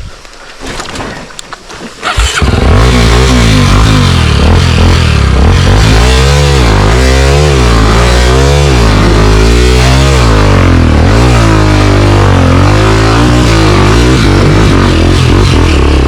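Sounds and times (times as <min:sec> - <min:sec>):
dirt bike engine revving: 0:02.0 - 0:16.0.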